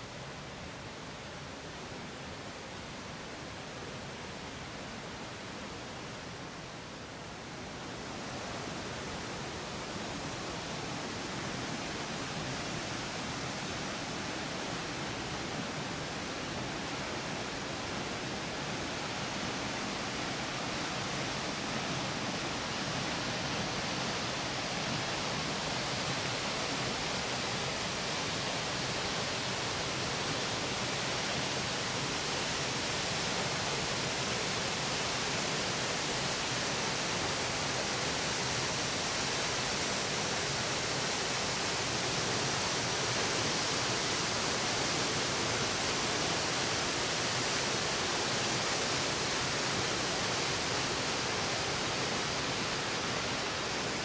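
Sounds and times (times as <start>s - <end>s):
waterfall rushing: 9.9s - 54.0s.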